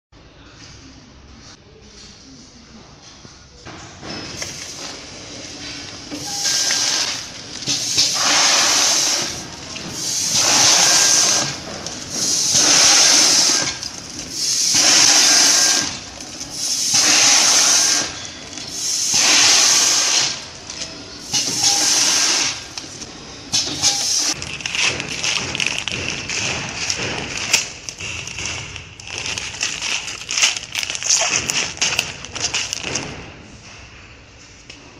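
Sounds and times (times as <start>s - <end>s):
packing machine rushing hiss: 4.3s - 33.3s.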